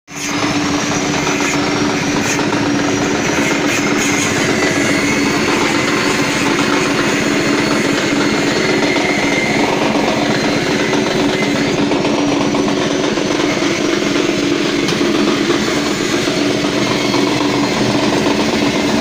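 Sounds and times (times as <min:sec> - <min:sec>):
petrol engine driving machine drone: 0:00.1 - 0:19.0.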